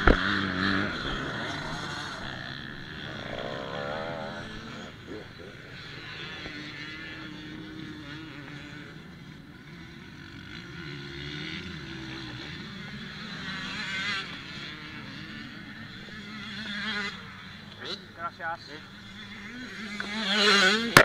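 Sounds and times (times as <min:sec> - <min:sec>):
motorcycle revving: 0:00.0 - 0:21.0.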